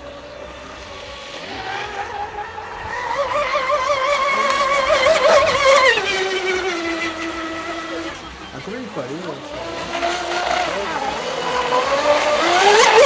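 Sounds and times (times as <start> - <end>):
model boat motor whining: 0.0 - 13.0.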